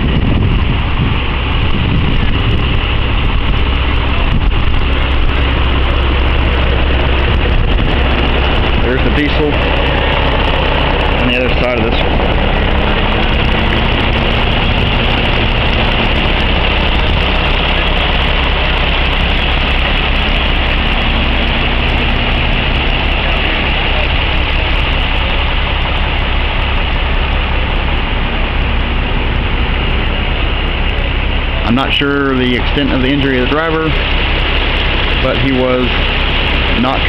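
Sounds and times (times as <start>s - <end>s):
large vehicle engine idling: 0.0s - 37.0s.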